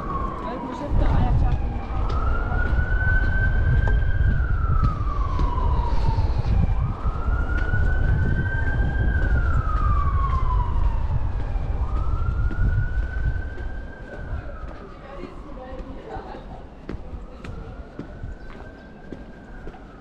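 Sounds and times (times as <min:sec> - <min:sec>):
emergency vehicle siren wailing: 0:00.0 - 0:20.0.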